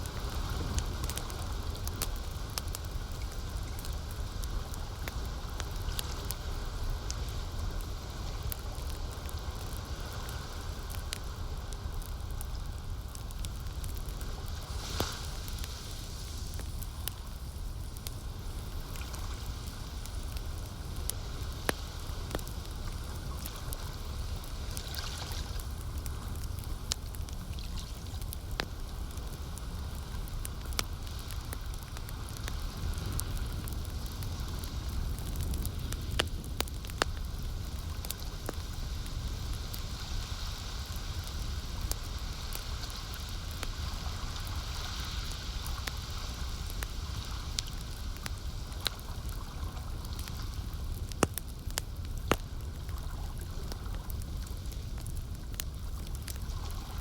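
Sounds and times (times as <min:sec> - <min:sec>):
campfire crackling: 0:00.0 - 0:57.0
fire hissing flare-ups: 0:00.0 - 0:57.0.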